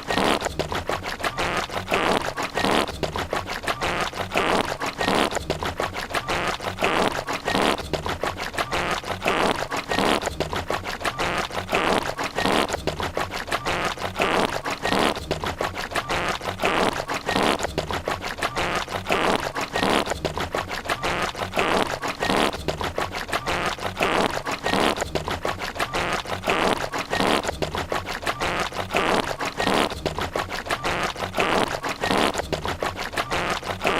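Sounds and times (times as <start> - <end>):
scratched fart and stomach noises: 0.0 - 33.9.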